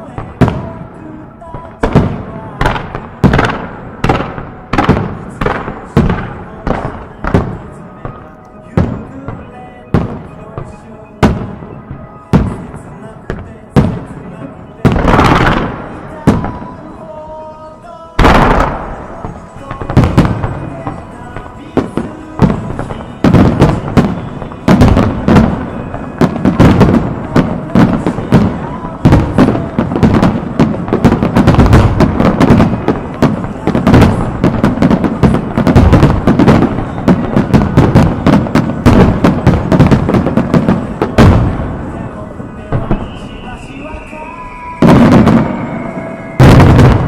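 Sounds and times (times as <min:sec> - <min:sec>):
firework crackles: 0:00.0 - 0:11.6, 0:12.3 - 0:47.0
firework booms: 0:00.0 - 0:17.1, 0:18.2 - 0:47.0.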